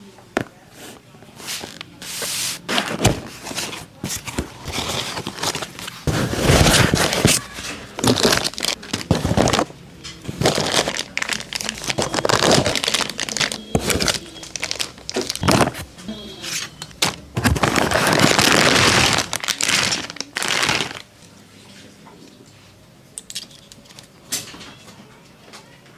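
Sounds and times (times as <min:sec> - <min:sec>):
crinkling and rustling: 0:00.3 - 0:21.3, 0:23.3 - 0:25.7.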